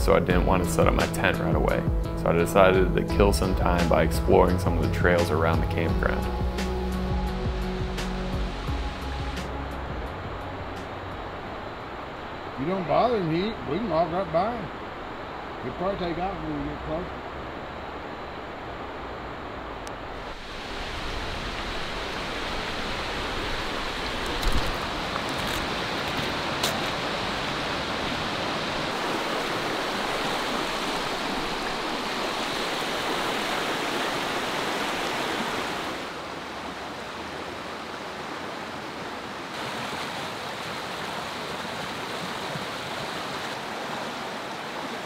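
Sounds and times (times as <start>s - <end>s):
river running over rocks: 7.3s - 45.0s.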